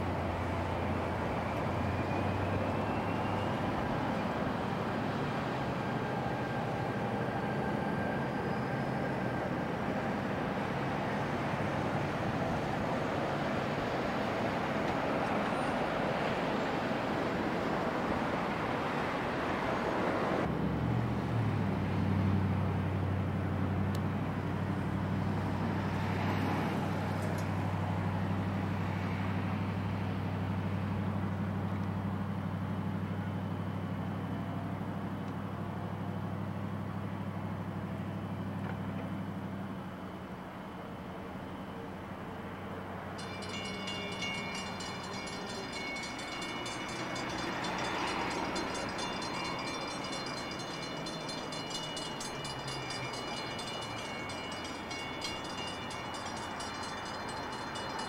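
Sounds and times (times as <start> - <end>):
diesel locomotive drone: 0.0 - 58.0
train rumble: 0.0 - 58.0.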